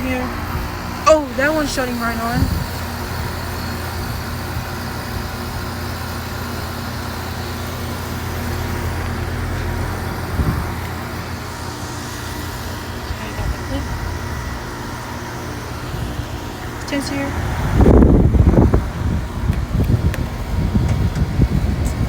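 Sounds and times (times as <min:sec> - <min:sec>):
compressor low hum: 0:00.0 - 0:22.0
condenser fans rushing: 0:00.0 - 0:22.0.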